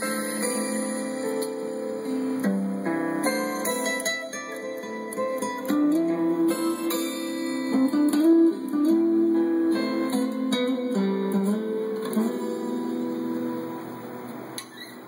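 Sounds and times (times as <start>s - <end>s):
acoustic guitar plucked and strummed: 0.0s - 15.0s.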